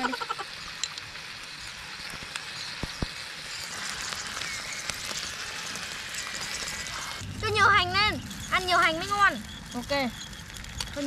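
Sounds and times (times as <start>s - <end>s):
snails sizzling on grill: 0.0s - 11.0s.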